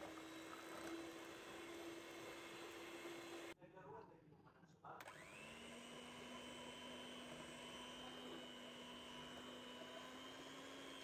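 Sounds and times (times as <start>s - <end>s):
electric hand mixer whine: 0.0s - 3.6s, 5.0s - 11.0s.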